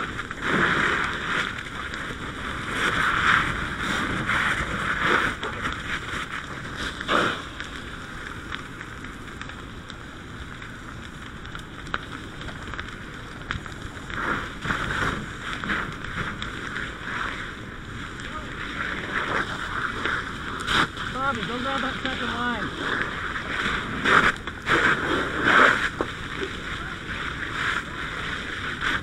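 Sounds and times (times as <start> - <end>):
fire hose stream hissing: 0.0 - 29.0.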